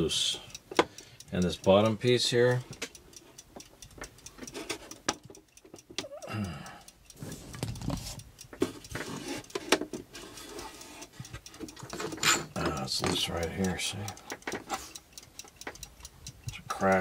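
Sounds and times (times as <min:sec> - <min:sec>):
mechanical clocks ticking: 0:00.0 - 0:17.0.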